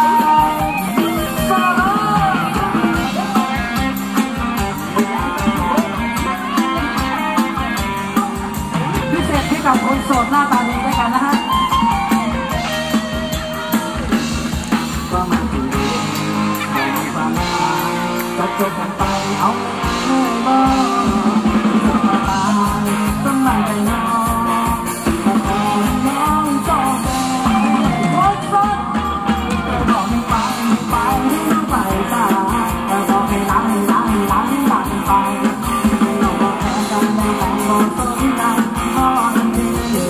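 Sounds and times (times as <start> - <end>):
live band with steady beat: 0.0 - 40.0
person singing: 0.0 - 40.0.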